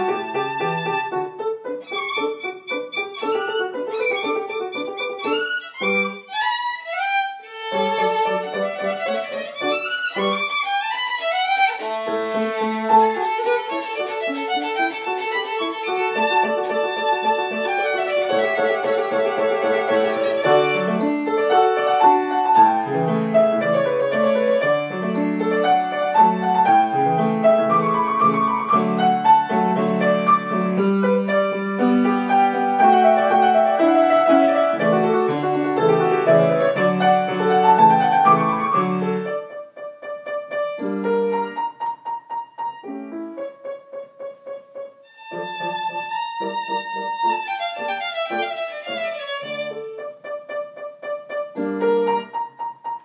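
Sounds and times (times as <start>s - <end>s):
violin: 0.0s - 39.6s, 45.0s - 50.6s
piano: 0.0s - 53.0s.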